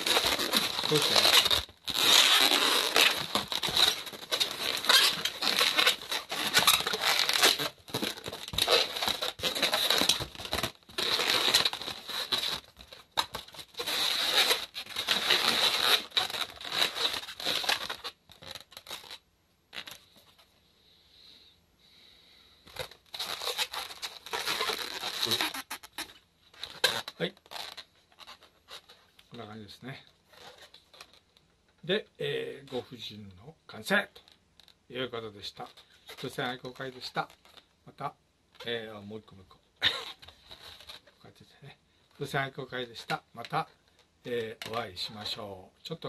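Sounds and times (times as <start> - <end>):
balloons rubbing and squeaking: 0.0 - 20.5, 22.7 - 33.0, 33.9 - 39.2, 39.8 - 46.0.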